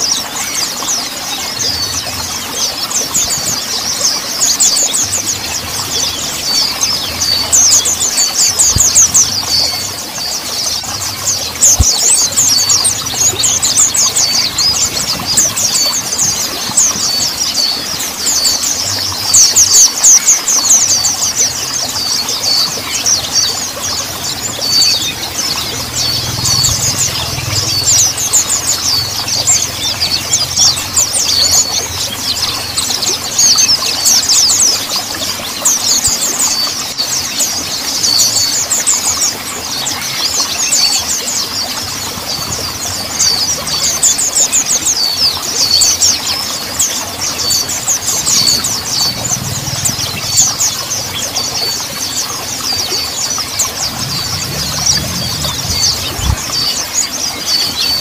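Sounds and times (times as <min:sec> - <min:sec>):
bird twittering song: 0:00.0 - 0:58.0.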